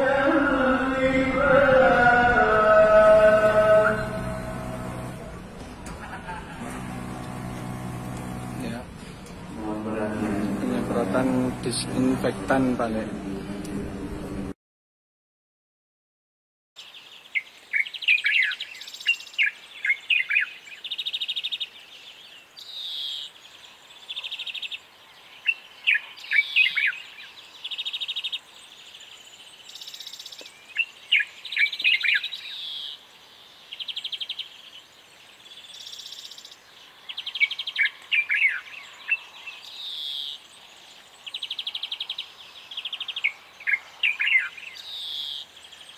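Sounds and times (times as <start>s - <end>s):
birds chirping: 0.0s - 14.5s, 16.8s - 45.9s.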